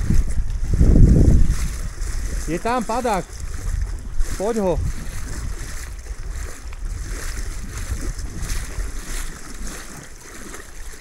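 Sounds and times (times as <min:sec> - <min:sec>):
water lapping around boat: 0:00.0 - 0:11.0
wind buffeting microphone: 0:00.0 - 0:11.0.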